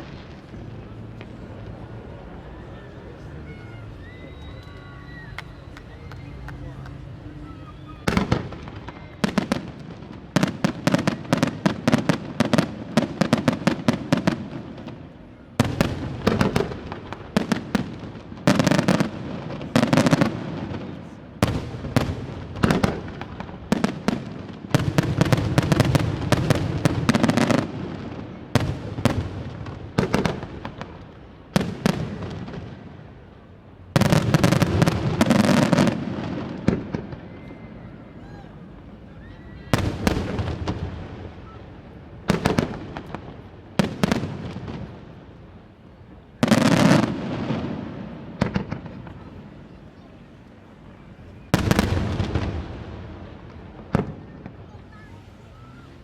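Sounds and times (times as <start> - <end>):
fireworks bursting and crackling: 0.0 - 45.6, 46.4 - 49.4, 51.4 - 56.0.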